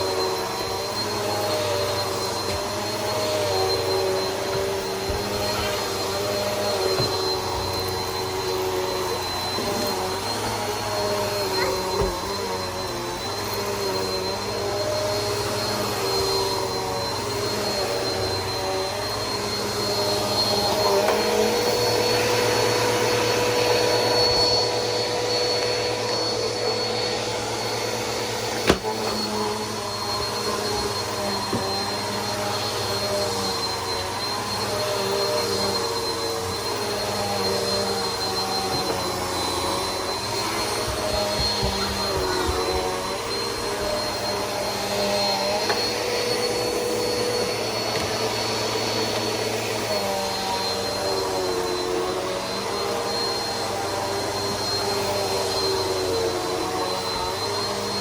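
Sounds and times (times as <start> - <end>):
upright vacuum running: 0.0 - 58.0.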